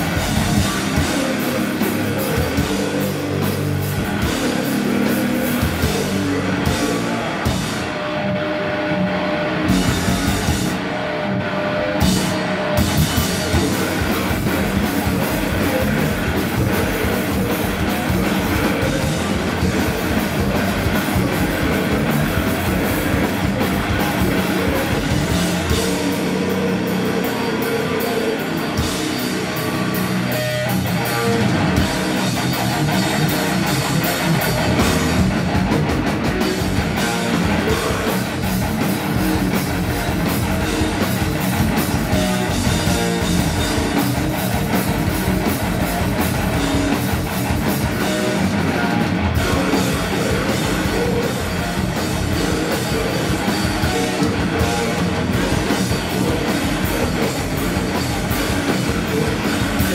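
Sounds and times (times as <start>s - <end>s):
fast drum kit with cymbals: 0.0s - 8.0s, 9.7s - 10.9s, 12.0s - 59.9s
bass guitar: 0.0s - 59.9s
distorted electric guitars: 0.0s - 59.9s.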